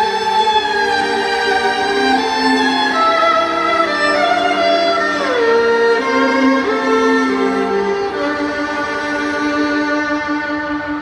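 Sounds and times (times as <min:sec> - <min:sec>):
violin-led string music: 0:00.0 - 0:11.0.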